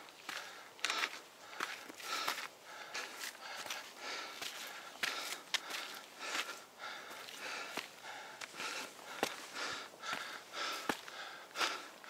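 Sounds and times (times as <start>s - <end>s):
footsteps scuffing on trail: 0.0s - 11.8s
hard breathing: 0.3s - 12.0s.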